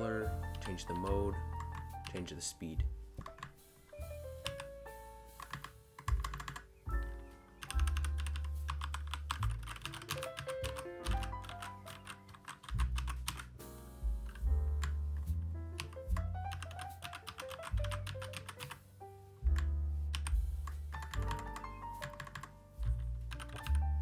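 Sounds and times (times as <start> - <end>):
background music: 0.0 - 24.0.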